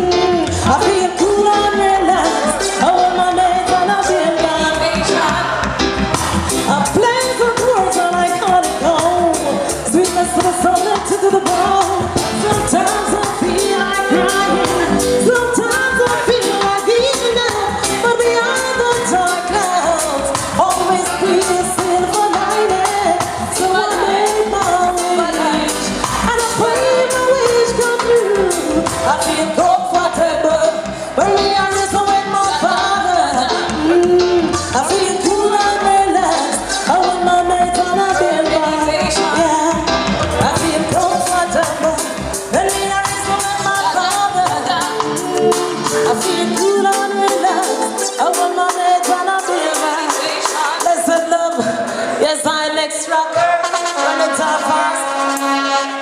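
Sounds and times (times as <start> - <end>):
woman singing: 0.0 - 5.7, 6.5 - 56.0
reggae backing track with beat: 0.0 - 56.0.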